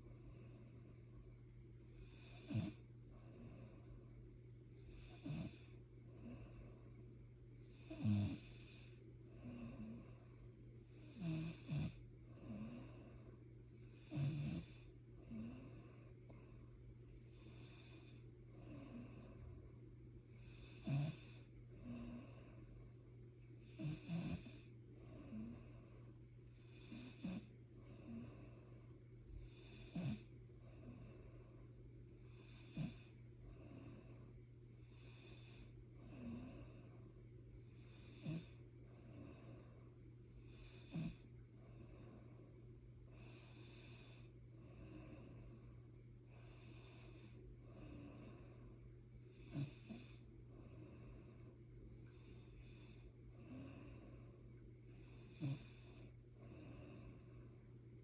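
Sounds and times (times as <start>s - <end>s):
person snoring softly: 0.0s - 23.0s, 23.6s - 57.7s
steady low hum: 0.0s - 58.0s.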